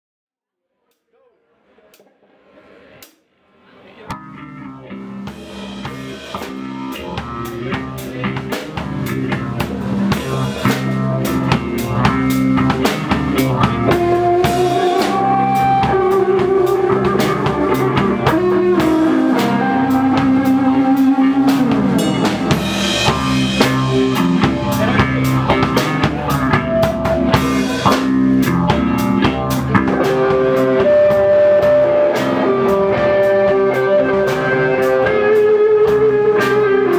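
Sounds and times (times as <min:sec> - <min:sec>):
drum kit: 0:04.0 - 0:36.9
bass notes: 0:04.1 - 0:36.9
electric guitar: 0:04.1 - 0:36.9
rock band playing live: 0:04.1 - 0:36.9.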